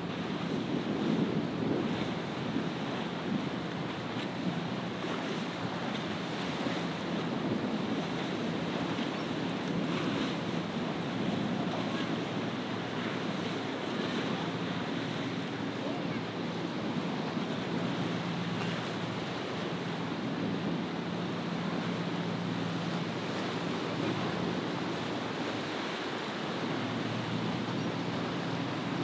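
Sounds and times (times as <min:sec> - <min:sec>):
breaking waves: 0:00.0 - 0:29.0
faint boat engine hum: 0:00.0 - 0:29.0
wind buffeting microphone: 0:00.0 - 0:29.0.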